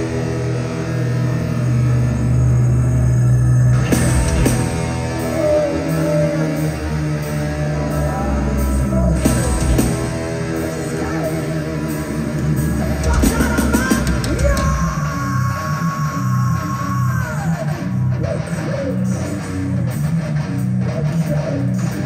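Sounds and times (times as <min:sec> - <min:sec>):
live heavy metal band: 0:00.0 - 0:22.0.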